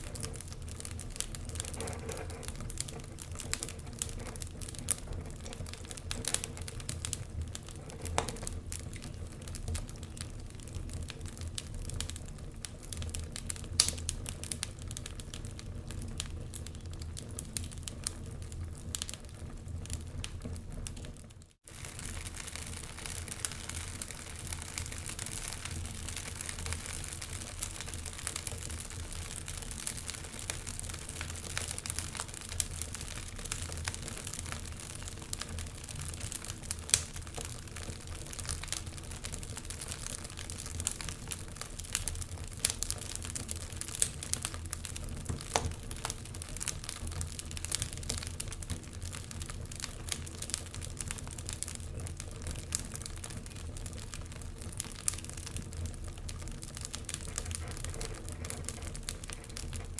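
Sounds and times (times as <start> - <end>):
sharp pops from fire: 0.0 - 59.9
wood fire crackling: 0.0 - 59.9.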